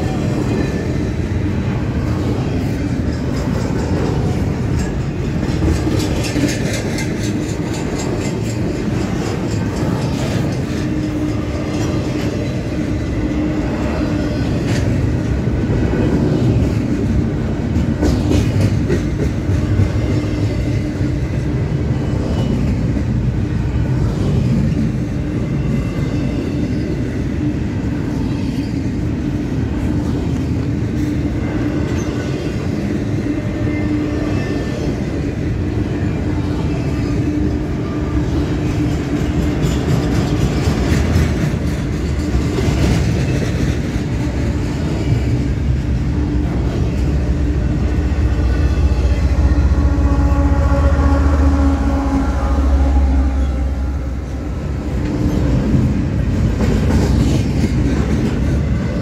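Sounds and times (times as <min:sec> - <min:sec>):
wheels clacking over rail joints: 0:00.0 - 0:27.2, 0:27.9 - 0:49.5, 0:54.3 - 0:59.0
freight train wheels rumbling: 0:00.0 - 0:59.0.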